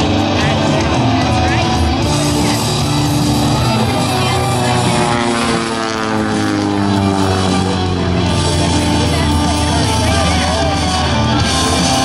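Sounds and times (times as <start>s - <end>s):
propeller plane passing low: 0.0s - 12.0s.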